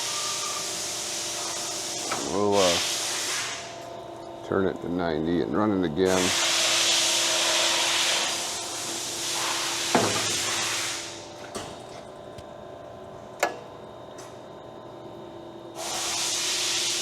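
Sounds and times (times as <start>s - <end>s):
machine hum: 0.0s - 15.8s.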